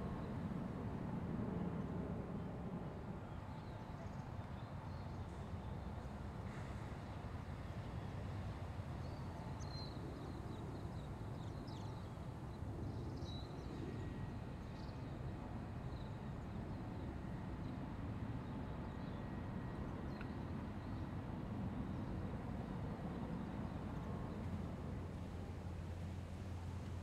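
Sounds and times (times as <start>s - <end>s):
distant city traffic rumble: 0.0s - 27.0s.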